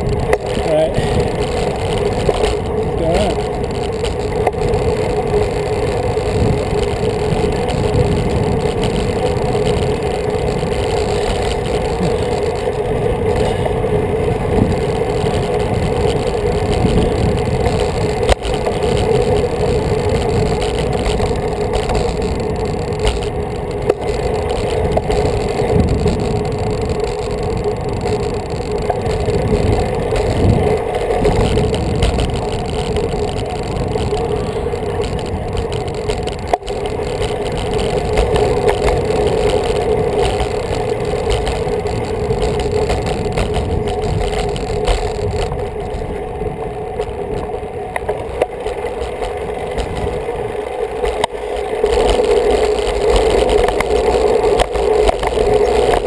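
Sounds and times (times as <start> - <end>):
constant drone: 0.0 - 56.0
wind buffeting microphone: 0.0 - 56.0.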